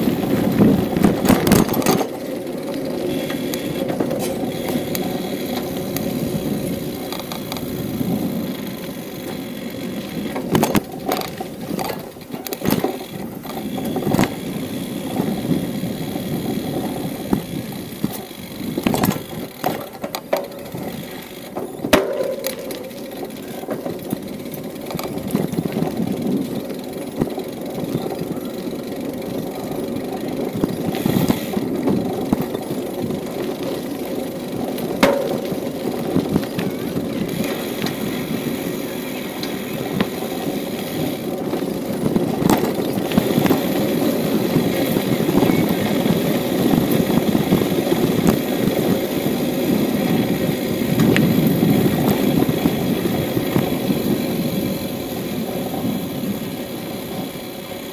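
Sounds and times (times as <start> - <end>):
bicycle tyres rolling: 0.0 - 57.9
bike rattling: 0.0 - 57.9.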